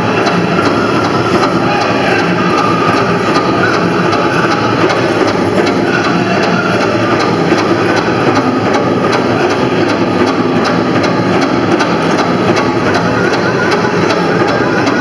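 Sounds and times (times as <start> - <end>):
group singing: 0.0 - 15.0
large drum beating: 0.0 - 15.0.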